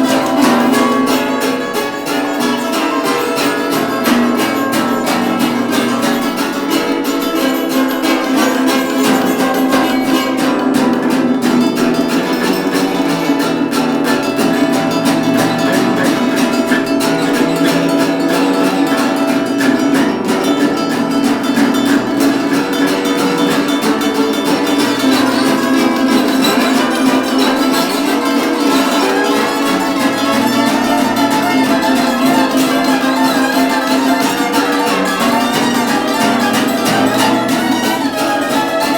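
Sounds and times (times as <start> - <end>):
acoustic bass: 0.0 - 38.9
plucked acoustic guitar: 0.0 - 38.9
ukulele: 0.0 - 38.9.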